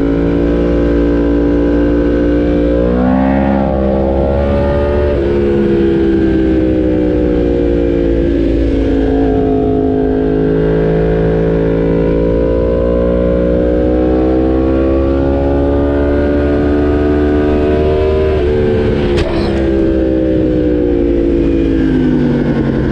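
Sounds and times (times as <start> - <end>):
low wind rumble: 0.0 - 22.9
motorcycle engine running: 0.0 - 22.9.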